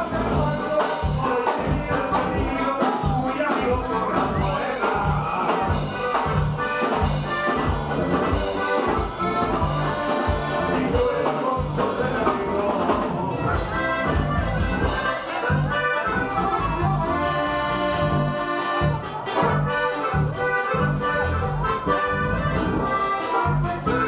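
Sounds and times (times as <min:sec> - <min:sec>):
accordion lead: 0:00.0 - 0:24.0
bajo sexto guitar: 0:00.0 - 0:24.0
drum kit beat: 0:00.0 - 0:24.0
electric bass: 0:00.0 - 0:24.0.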